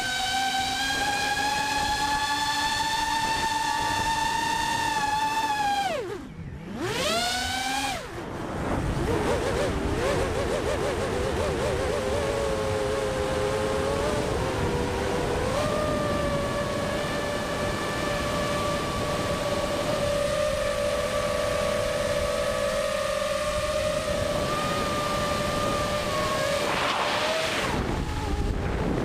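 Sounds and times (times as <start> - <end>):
drone propellers whining: 0.0 - 29.0
wind noise on microphone: 0.0 - 29.0.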